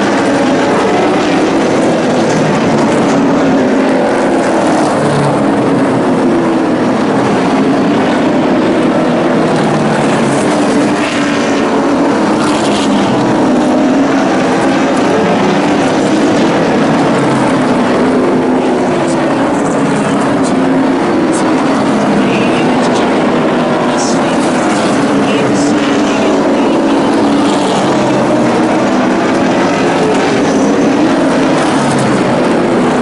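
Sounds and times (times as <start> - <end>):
race truck engines racing: 0.0 - 33.0.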